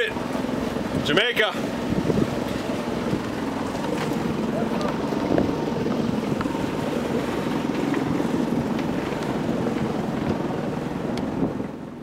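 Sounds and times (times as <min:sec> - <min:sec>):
sea wash: 0:00.0 - 0:12.0
wind buffeting microphone: 0:00.2 - 0:12.0.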